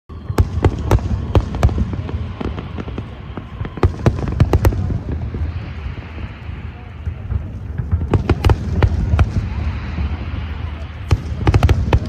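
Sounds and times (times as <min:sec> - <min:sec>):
fireworks bangs and cracks: 0:00.1 - 0:12.0.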